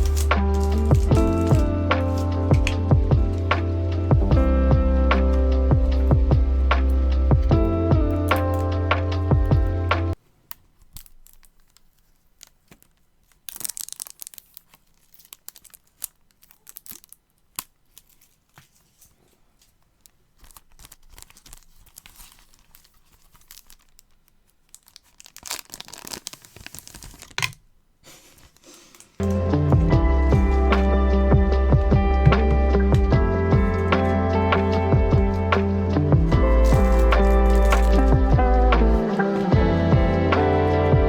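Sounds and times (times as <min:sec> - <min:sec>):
packaging tearing and crinkling: 0:00.0 - 0:04.1, 0:08.1 - 0:09.1, 0:10.5 - 0:31.4, 0:32.3 - 0:40.9.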